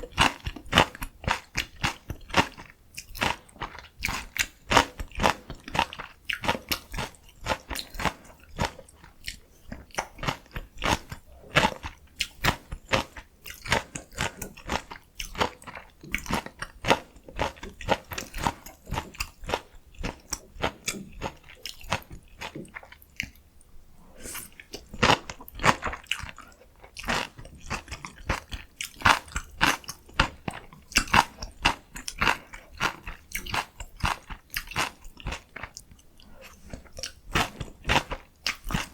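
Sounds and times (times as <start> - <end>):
person crunching and chewing food: 0.0 - 23.5, 24.2 - 38.9.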